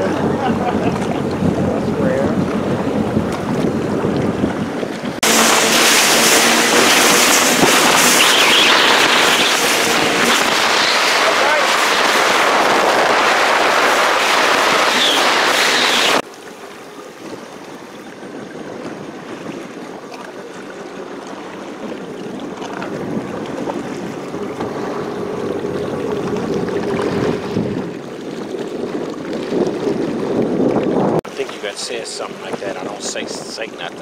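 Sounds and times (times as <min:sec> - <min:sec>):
wind rumble on microphone: 0:00.0 - 0:16.2, 0:21.7 - 0:34.0
water noise: 0:00.0 - 0:34.0
watercraft engine humming: 0:00.0 - 0:34.0.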